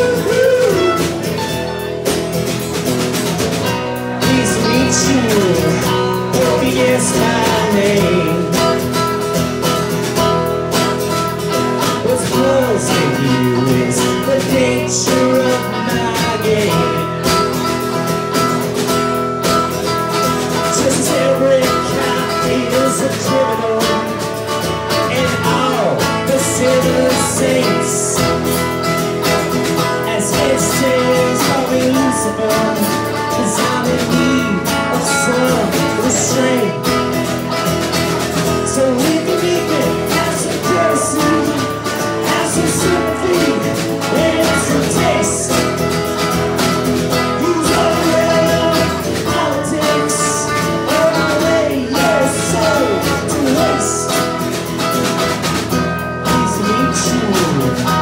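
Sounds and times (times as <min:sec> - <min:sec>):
person singing: 0:00.0 - 0:01.9, 0:02.6 - 0:09.3, 0:11.2 - 0:18.2, 0:19.8 - 0:54.9, 0:56.2 - 0:58.0
acoustic guitar: 0:00.0 - 0:58.0
drums: 0:00.0 - 0:58.0
electric guitar: 0:00.0 - 0:58.0.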